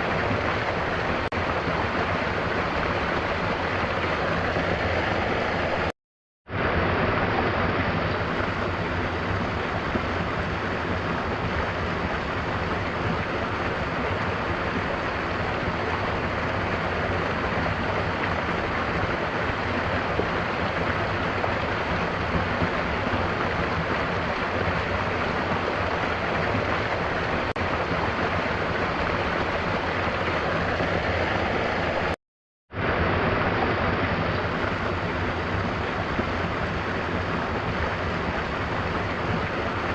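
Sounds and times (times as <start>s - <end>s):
waterfall roaring: 0.0s - 5.9s, 6.6s - 32.2s, 32.8s - 39.9s.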